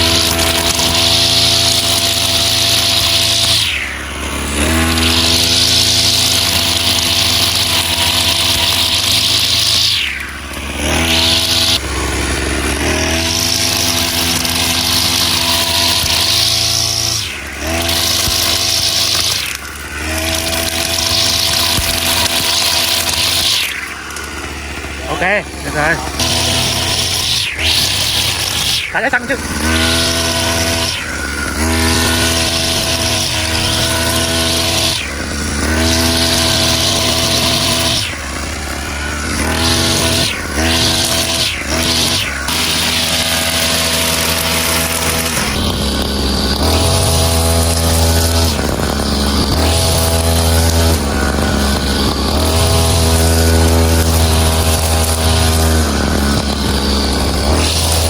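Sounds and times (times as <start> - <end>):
brush cutter engine revving: 0.0 - 58.0.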